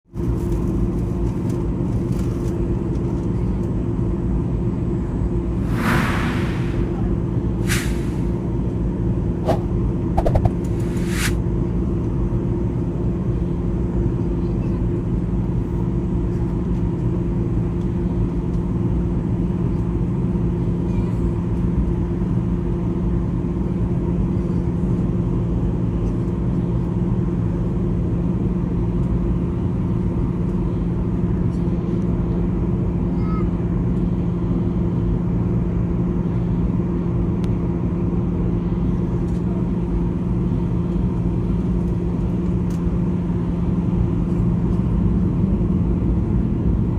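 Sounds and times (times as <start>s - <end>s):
airliner cabin engine drone: 0.2s - 46.9s.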